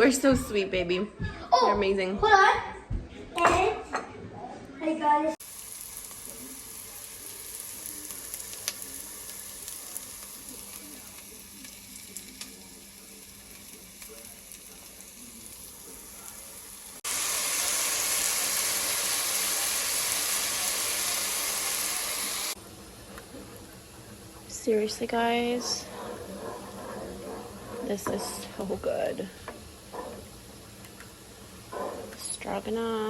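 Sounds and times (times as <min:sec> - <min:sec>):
food sizzling in a pan: 0:05.4 - 0:33.0.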